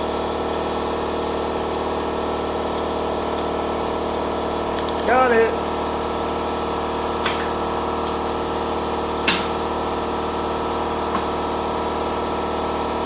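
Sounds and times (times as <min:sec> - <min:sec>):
machine hum: 0:02.4 - 0:13.0.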